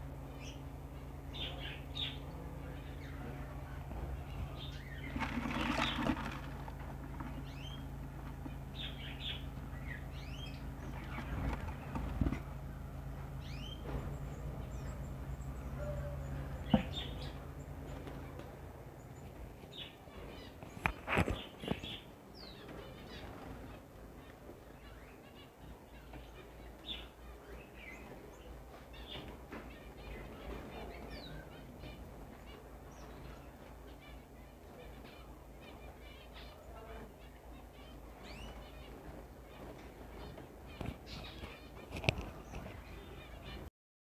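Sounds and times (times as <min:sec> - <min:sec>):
small birds chirping: 0:00.0 - 0:43.7
steady low hum: 0:00.0 - 0:43.7.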